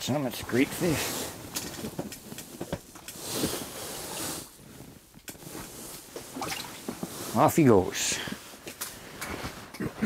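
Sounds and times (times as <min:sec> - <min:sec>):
light knocks and rustling of clothing: 0:00.0 - 0:10.0.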